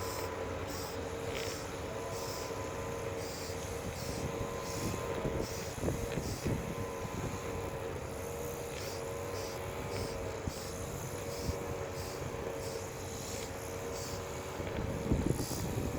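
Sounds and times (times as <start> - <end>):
spray nozzle hissing: 0.0 - 6.4, 8.2 - 15.9
spray pump motor humming: 0.0 - 15.9.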